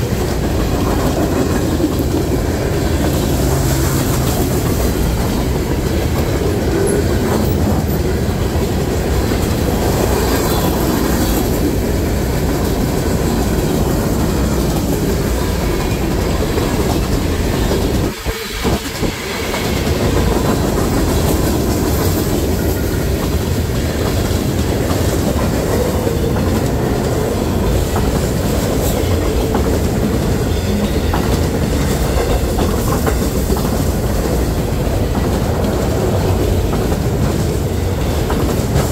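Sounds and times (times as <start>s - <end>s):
freight train cars rumbling: 0.0s - 38.9s.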